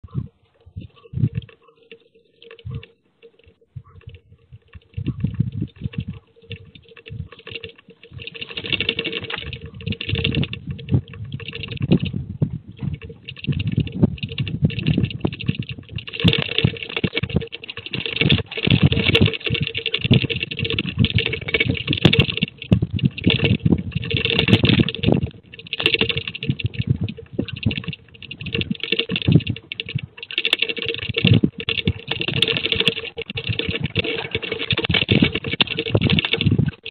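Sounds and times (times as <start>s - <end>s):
rattling clatter: 0.8s - 12.2s, 12.8s - 36.9s
earthquake low rumble: 3.6s - 36.9s.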